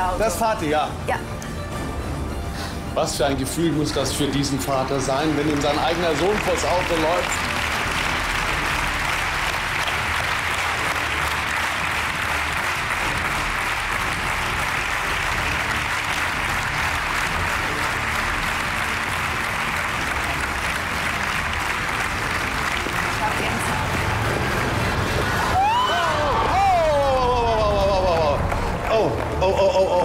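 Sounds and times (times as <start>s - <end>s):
audience applauding: 3.5s - 30.0s.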